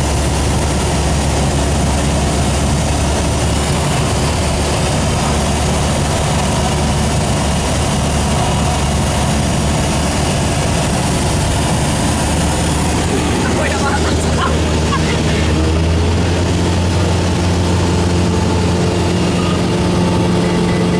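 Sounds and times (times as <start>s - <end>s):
small aircraft engine humming: 0.0s - 20.9s.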